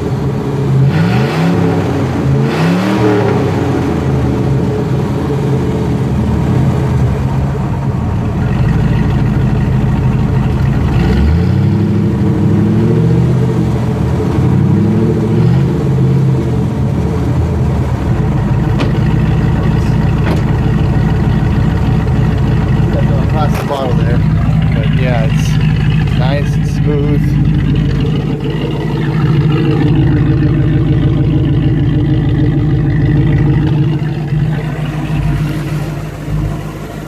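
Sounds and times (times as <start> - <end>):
engine idling with throttle blips: 0.0 - 37.0.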